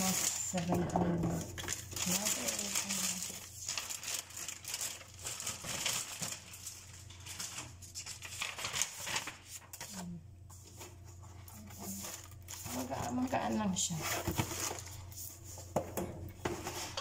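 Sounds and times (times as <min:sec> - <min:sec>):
plastic packaging crinkling: 0:00.0 - 0:10.1, 0:11.1 - 0:15.5
paper sheet rustling: 0:00.0 - 0:15.8.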